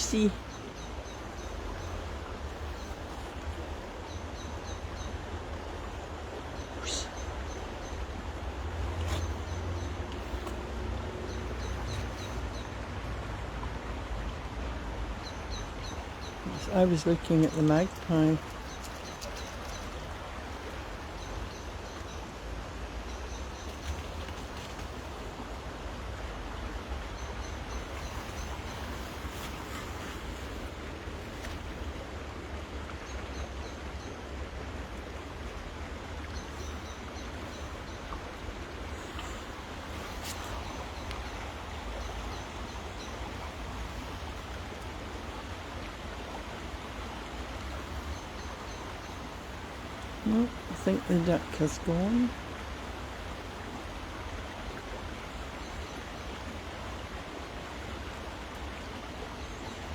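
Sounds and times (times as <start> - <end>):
rain: 0.0 - 59.9
river water rushing: 0.0 - 59.9.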